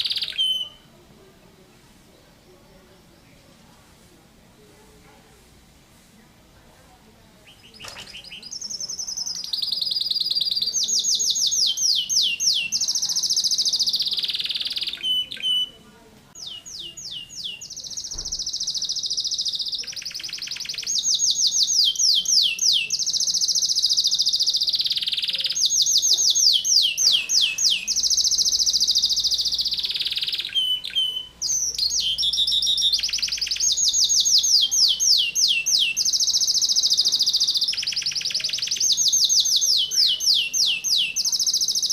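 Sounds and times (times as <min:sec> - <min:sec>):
canary singing trills: 0:00.0 - 0:01.1, 0:07.3 - 0:41.9.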